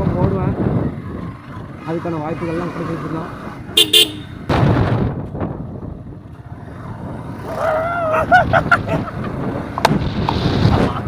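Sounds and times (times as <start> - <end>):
motorcycle road and engine noise: 0.0 - 11.0
wind rushing over microphone: 0.0 - 11.0.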